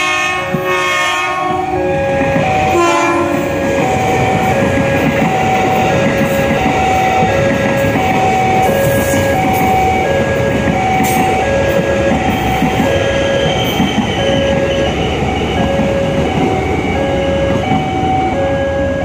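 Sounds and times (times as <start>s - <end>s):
electric train passing: 0.0s - 19.0s
level crossing alarm tones: 0.0s - 19.0s.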